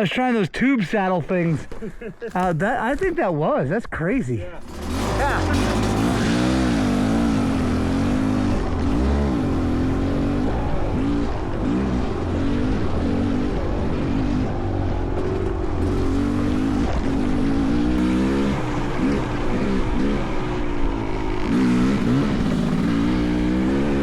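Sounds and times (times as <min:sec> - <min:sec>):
dirt bike engine revving: 0:04.5 - 0:24.0.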